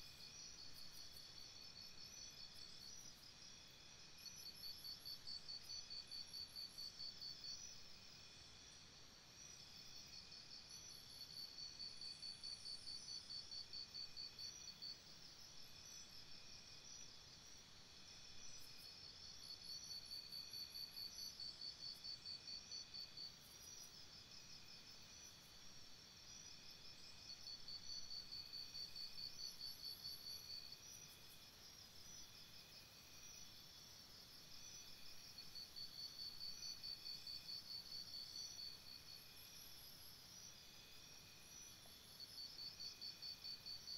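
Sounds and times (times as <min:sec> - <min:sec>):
faint high insect chirring: 0:00.0 - 0:43.9.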